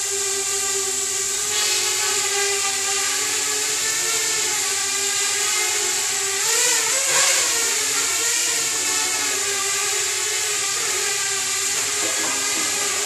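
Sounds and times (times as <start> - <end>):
drone propellers whirring: 0.0 - 13.0.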